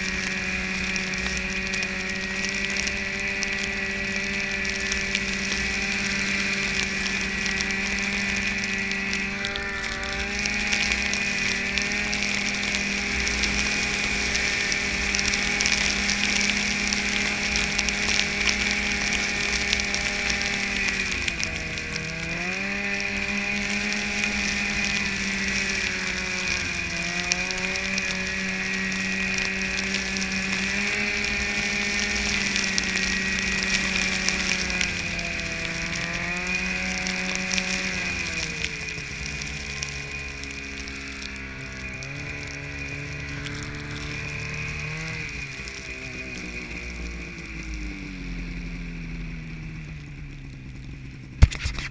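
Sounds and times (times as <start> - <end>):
snowmobile engine running: 0.0 - 51.9.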